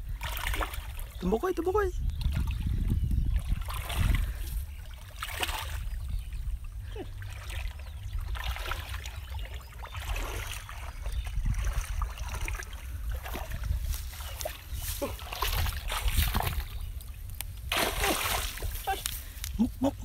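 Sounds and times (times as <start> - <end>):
muddy water splashing: 0.0 - 20.0.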